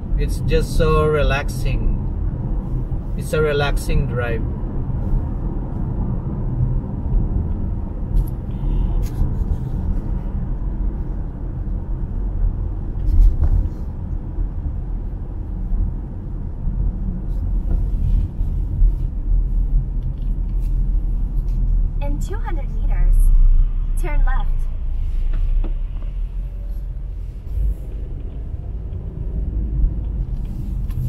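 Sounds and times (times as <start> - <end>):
car engine and tyre noise: 0.0 - 31.0.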